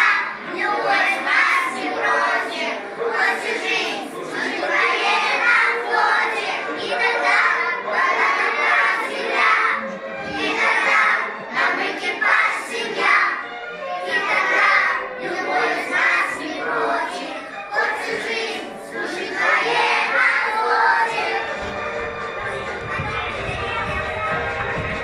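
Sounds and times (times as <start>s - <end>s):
backing track music: 0.0s - 25.0s
children singing: 0.0s - 25.0s.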